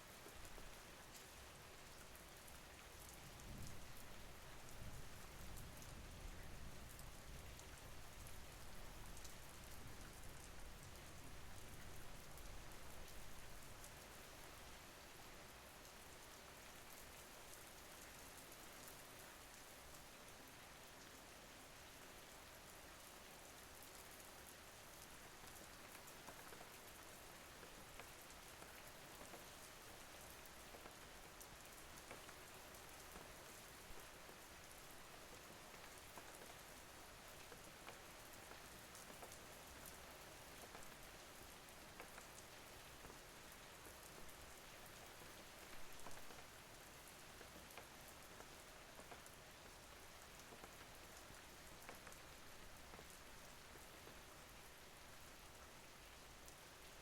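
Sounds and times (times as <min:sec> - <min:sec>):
faint rain falling: 0:00.0 - 0:57.0.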